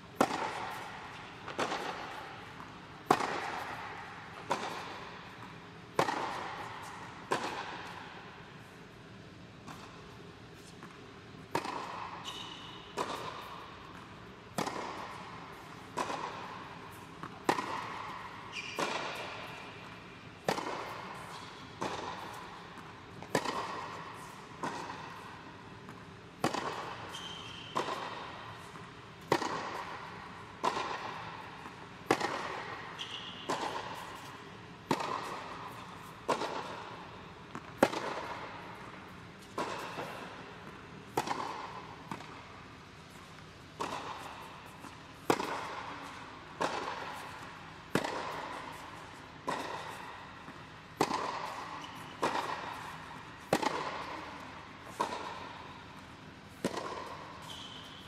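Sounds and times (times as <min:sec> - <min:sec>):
tennis ball hit with rackets: 0:00.1 - 0:58.0.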